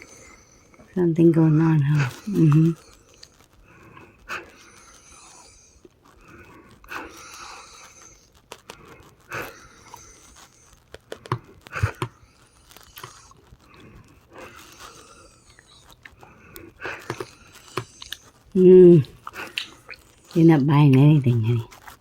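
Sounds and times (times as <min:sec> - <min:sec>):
wheezy breathing with crackling: 0:00.0 - 0:22.0.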